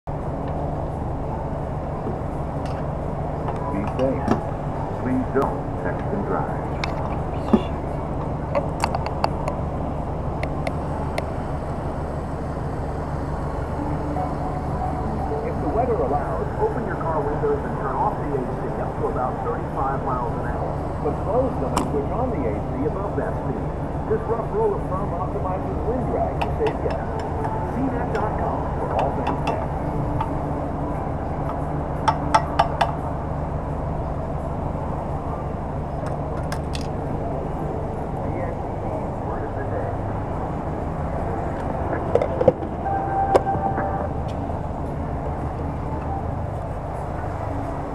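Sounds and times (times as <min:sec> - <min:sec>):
fuel pumping hum and rush: 0:00.1 - 0:47.9.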